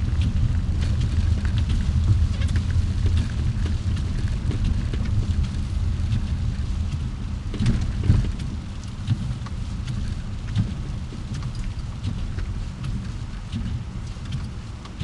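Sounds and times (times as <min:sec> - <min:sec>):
car engine and tyres rumbling: 0:00.0 - 0:15.0
light ticks and taps: 0:00.1 - 0:15.0.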